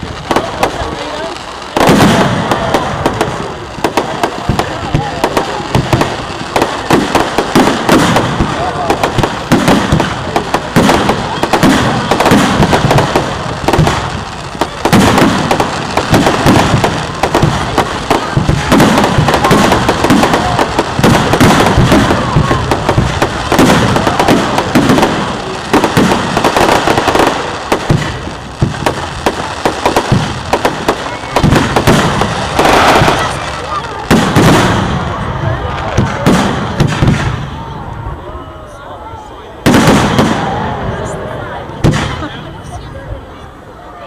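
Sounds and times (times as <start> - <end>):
fireworks bursting: 0.0 - 43.8.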